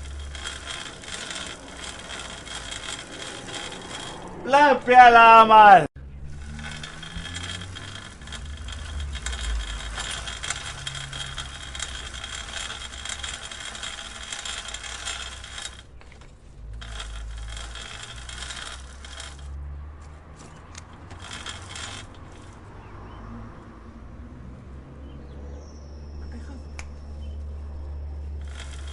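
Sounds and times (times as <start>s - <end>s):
bicycle chain clicking and rattling: 0.0s - 5.3s, 6.0s - 23.0s, 27.8s - 28.9s.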